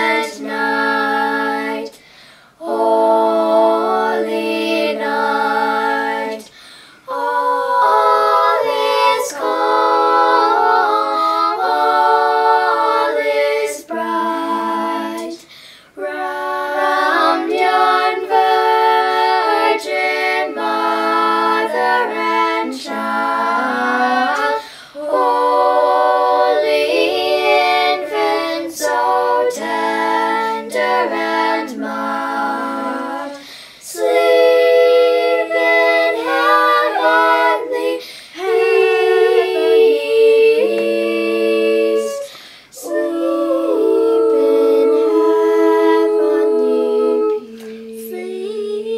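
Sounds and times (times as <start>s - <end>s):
group singing in close harmony: 0.0s - 48.9s.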